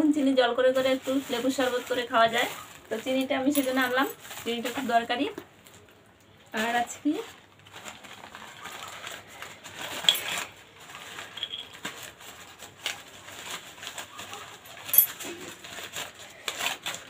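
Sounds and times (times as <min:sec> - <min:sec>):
plastic packet rustling and clicking: 0:00.8 - 0:17.0.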